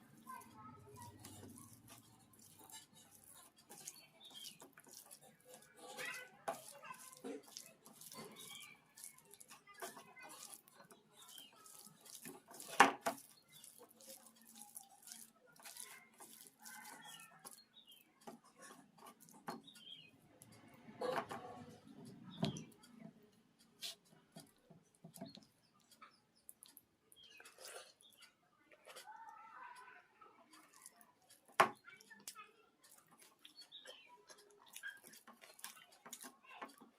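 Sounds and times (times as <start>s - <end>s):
person eating by hand: 0.0s - 36.9s.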